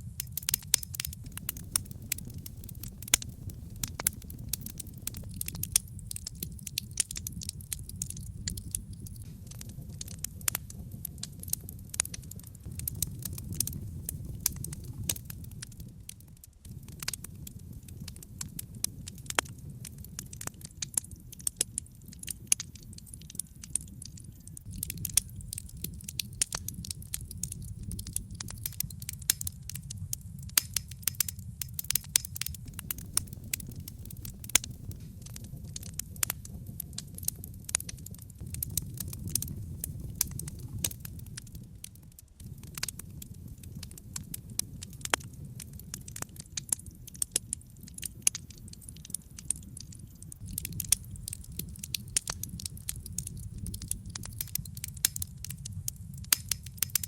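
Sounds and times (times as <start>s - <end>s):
burning logs crackling and popping: 0.0s - 57.0s
low rumble of flames: 0.0s - 57.0s.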